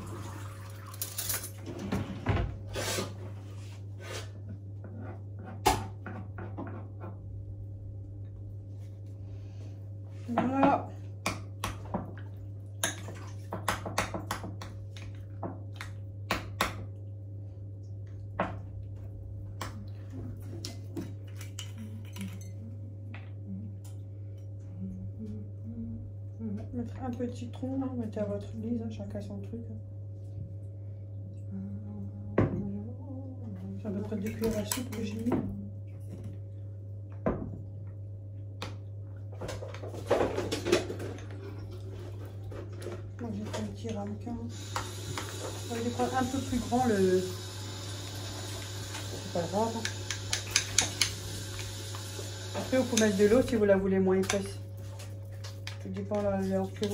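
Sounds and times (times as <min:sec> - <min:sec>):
steady low hum: 0:01.0 - 0:56.9.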